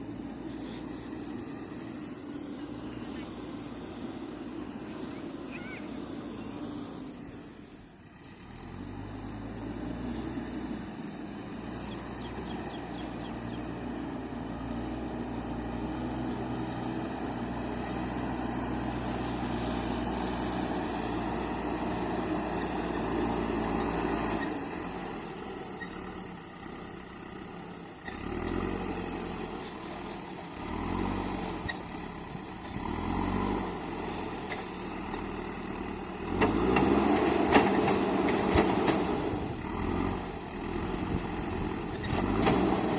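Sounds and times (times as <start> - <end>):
diesel engine running and revving: 0.0 - 42.9.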